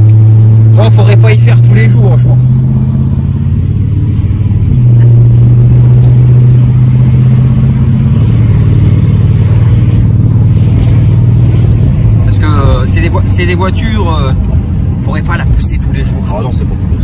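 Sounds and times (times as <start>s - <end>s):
car engine driven hard: 0.0s - 17.0s.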